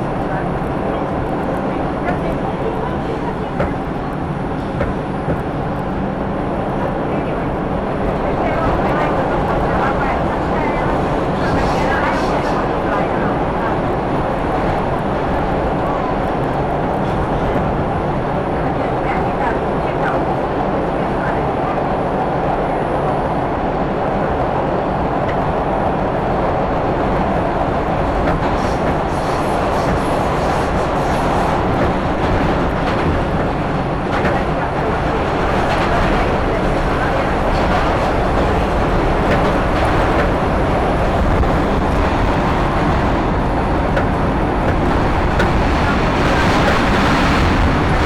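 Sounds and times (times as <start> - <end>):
subway train rumbling on track: 0.0 - 48.0.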